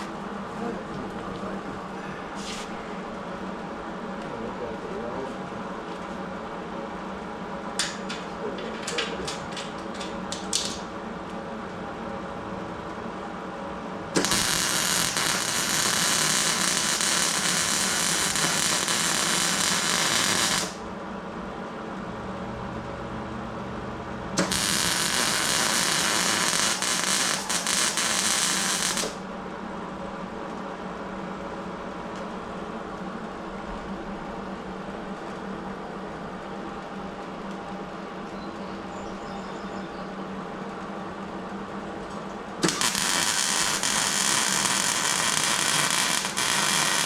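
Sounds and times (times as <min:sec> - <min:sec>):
steady shop hum: 0:00.0 - 0:39.2, 0:39.8 - 0:47.0.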